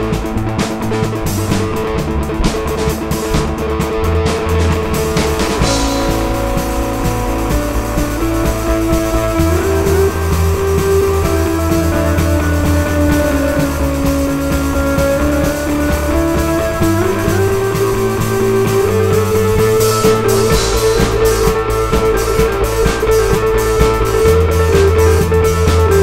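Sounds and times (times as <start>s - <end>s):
steady drum beat: 0.0s - 26.0s
sustained rock guitar notes: 0.0s - 26.0s.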